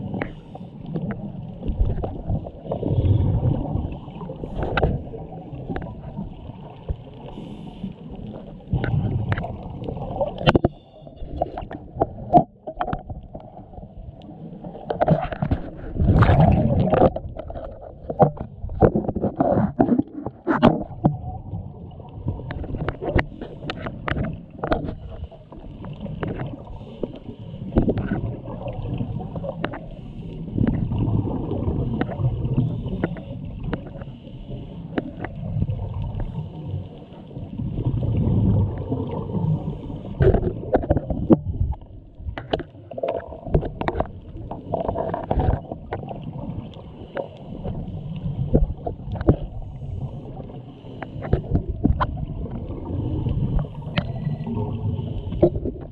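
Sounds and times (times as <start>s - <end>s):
underwater rumbling of water: 0.0s - 55.9s.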